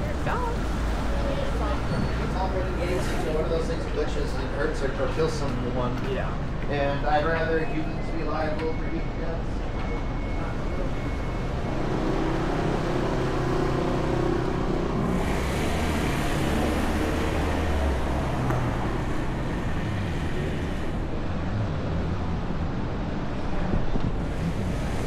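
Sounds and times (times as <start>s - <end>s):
low rumble of cars: 0.0s - 25.0s.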